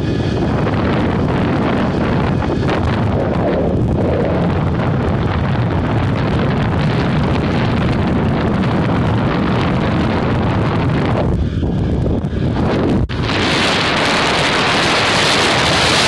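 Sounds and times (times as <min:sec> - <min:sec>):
motorbike engine and road noise: 0:00.0 - 0:16.0
wind rushing over microphone: 0:00.0 - 0:16.0.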